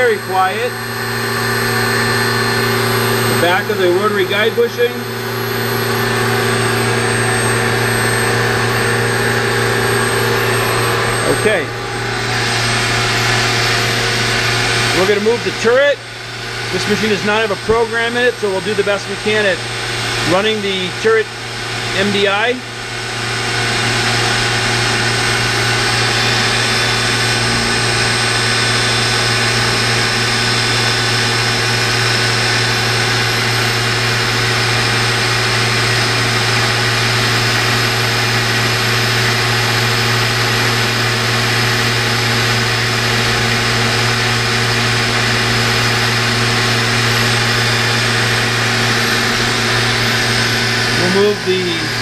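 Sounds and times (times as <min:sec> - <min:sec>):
lathe machine hum and whir: 0:00.0 - 0:52.0.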